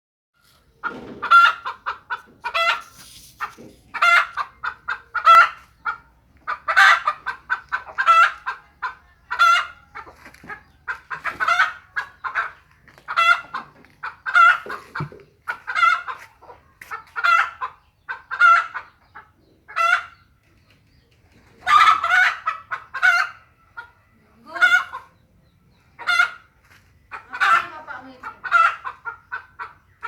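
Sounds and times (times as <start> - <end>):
chickens clucking: 0.4 - 30.0.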